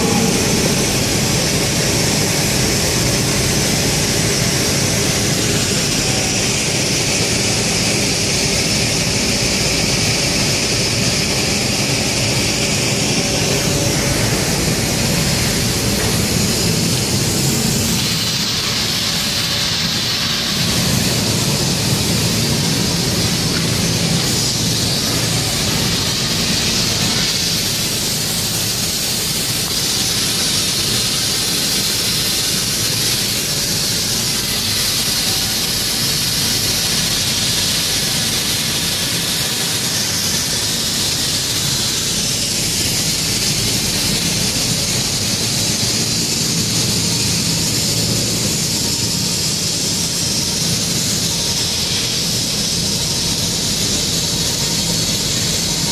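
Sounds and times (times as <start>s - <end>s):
welding arc hissing: 0.0s - 55.9s.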